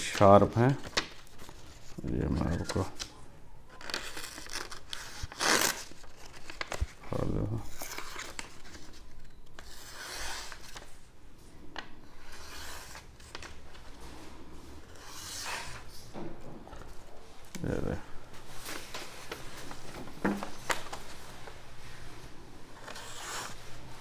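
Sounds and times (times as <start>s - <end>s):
paper rustling: 0.0s - 11.0s, 12.2s - 24.0s.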